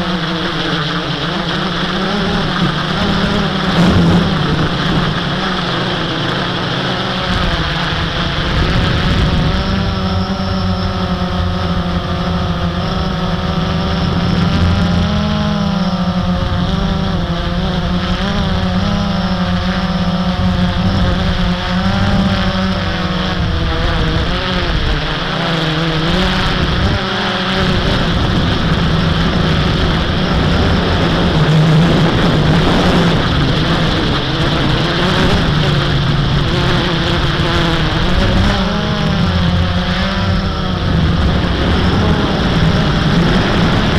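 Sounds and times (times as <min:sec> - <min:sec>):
quadcopter propellers buzzing: 0:00.0 - 0:43.9.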